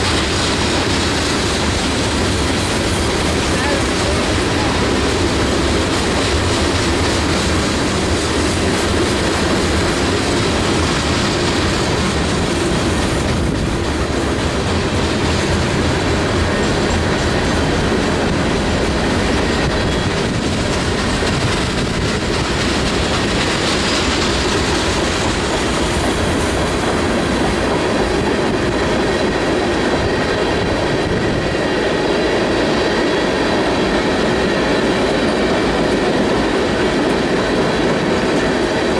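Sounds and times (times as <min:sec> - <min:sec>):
train wheels clattering on track: 0:00.0 - 0:38.9.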